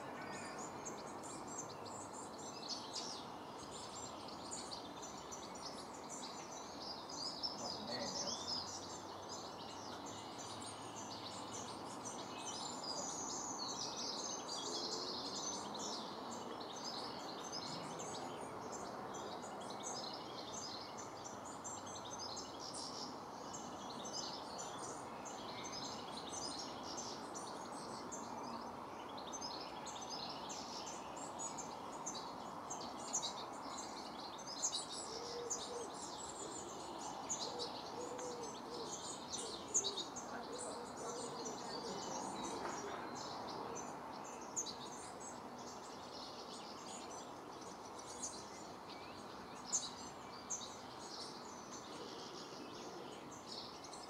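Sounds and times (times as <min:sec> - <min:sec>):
birds chirping and singing: 0:00.0 - 0:54.0
steady background hiss: 0:00.0 - 0:54.0.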